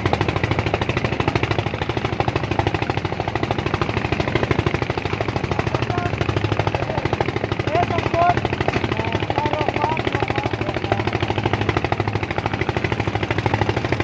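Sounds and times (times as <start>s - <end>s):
small engine chugging: 0.0s - 14.0s.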